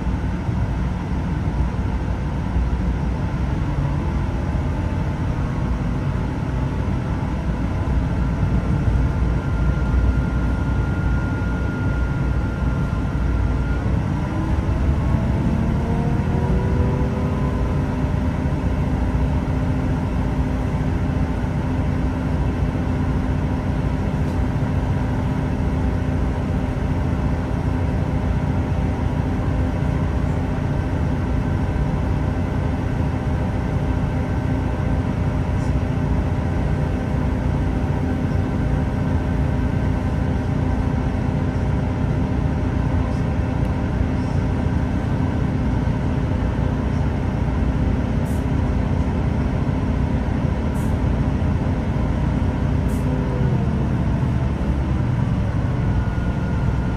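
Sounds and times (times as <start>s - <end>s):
rising engine whine: 0.0s - 56.9s
train diesel engine rumble: 0.0s - 56.9s.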